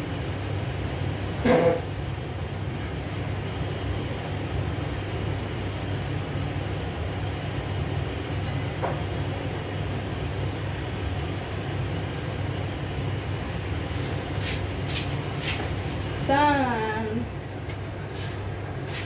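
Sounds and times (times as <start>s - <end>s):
range hood fan humming: 0.0s - 19.0s.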